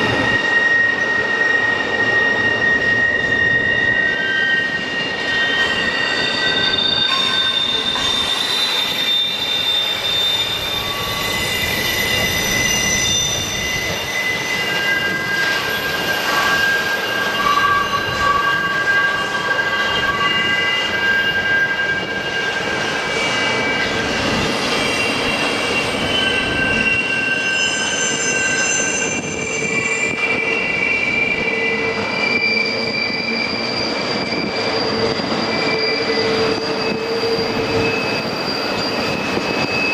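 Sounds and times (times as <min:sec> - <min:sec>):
train rumble: 0:00.0 - 0:39.9
train wheels squealing: 0:00.0 - 0:39.9.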